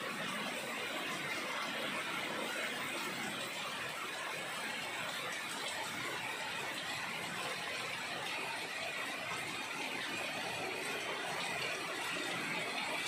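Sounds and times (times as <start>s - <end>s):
heavy rain on netting and leaves: 0.0s - 13.0s.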